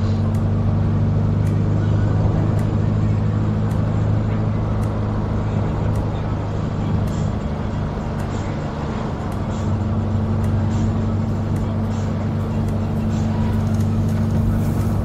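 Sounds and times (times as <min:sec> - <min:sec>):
minibus engine droning: 0:00.0 - 0:15.0
road noise: 0:00.0 - 0:15.0.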